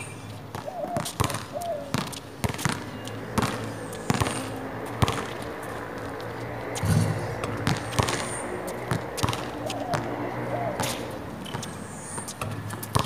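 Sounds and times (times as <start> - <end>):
basketball bouncing on hard court: 0.5 - 13.0.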